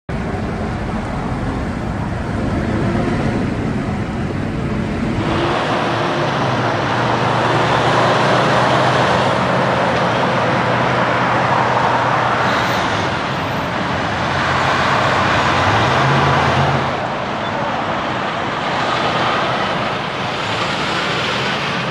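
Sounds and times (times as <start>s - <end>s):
low truck engine tone: 0.1s - 21.9s
traffic driving past: 0.1s - 21.9s.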